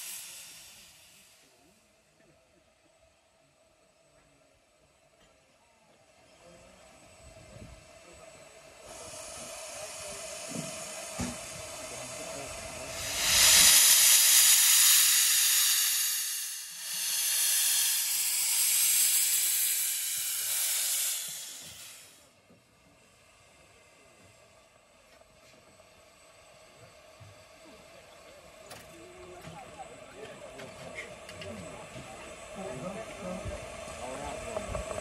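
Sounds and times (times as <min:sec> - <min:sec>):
steam locomotive venting steam: 0:00.0 - 0:35.0.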